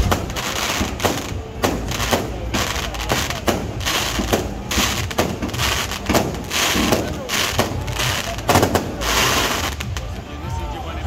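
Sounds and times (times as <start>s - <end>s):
fireworks bangs and pops: 0.0s - 10.3s.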